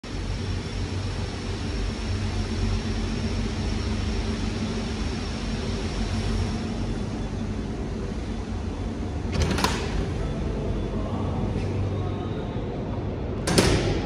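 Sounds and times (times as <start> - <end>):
machinery hum: 0.0 - 14.0
faint high whine: 0.1 - 13.4.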